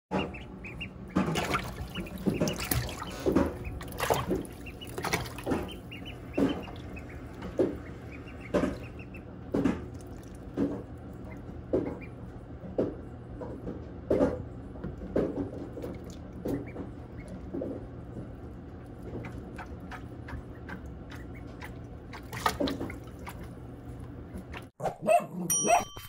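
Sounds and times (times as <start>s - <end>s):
ducklings peeping: 0.1s - 14.4s, 15.1s - 24.7s
ducklings splashing in water: 0.1s - 24.7s.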